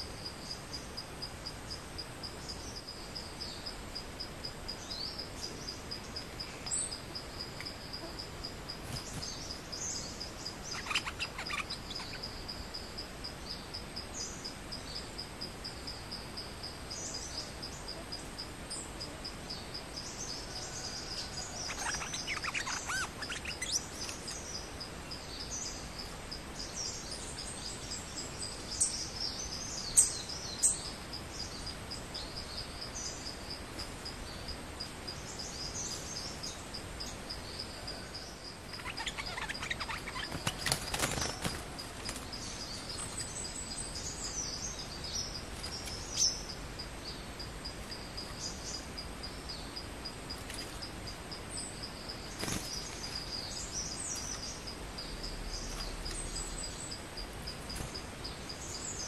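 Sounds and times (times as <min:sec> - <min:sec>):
pulsing insect trill: 0:00.0 - 0:59.0.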